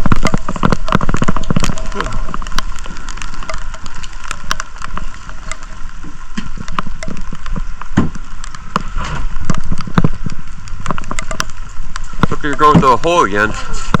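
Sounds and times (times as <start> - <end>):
rain pattering: 0.0 - 14.0
sharp drips: 0.0 - 14.0.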